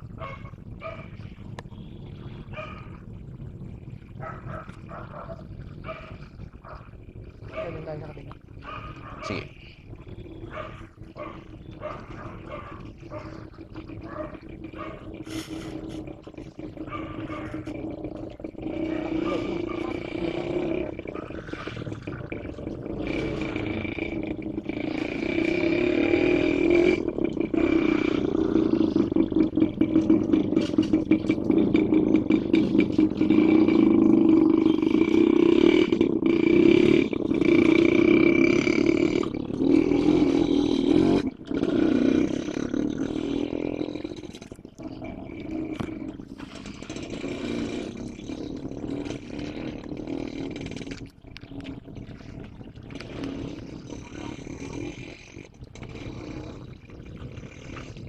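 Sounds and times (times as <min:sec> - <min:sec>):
locomotive engine low drone: 0:00.0 - 0:58.0.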